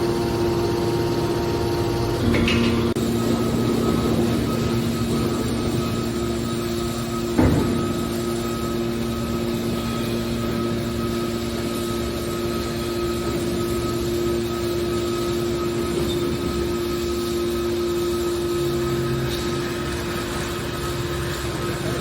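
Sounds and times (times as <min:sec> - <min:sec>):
can baler motor humming: 0:00.0 - 0:22.0.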